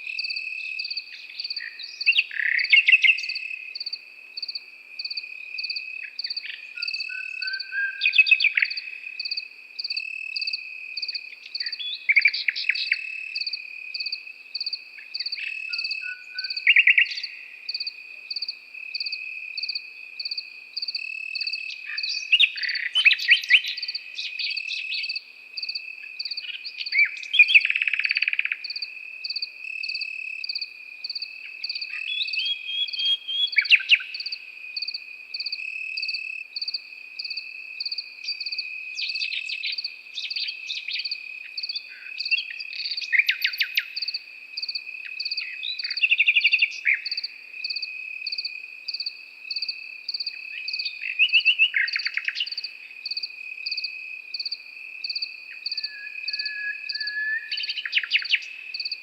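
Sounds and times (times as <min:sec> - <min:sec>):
crickets trilling and chirping: 0:00.0 - 0:59.0
nightingale singing: 0:00.0 - 0:59.0.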